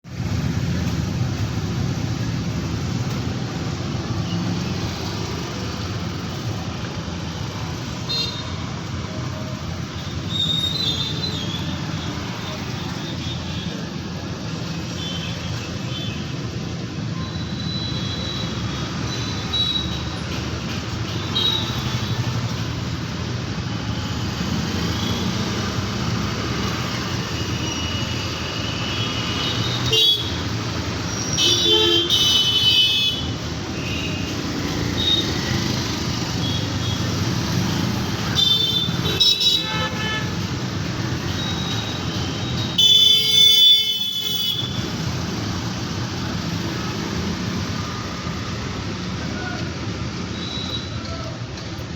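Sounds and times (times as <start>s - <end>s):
traffic engines rumbling: 0.0s - 51.9s.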